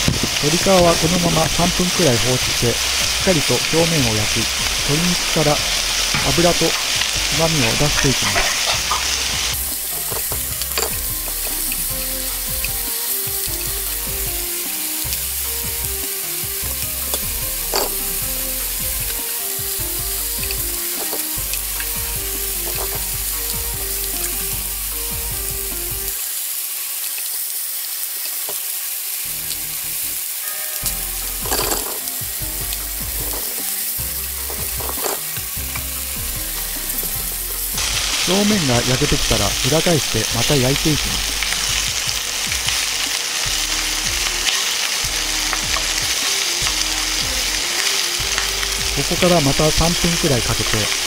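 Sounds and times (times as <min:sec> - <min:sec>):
chicken skin sizzling in pan: 0:00.0 - 0:51.0.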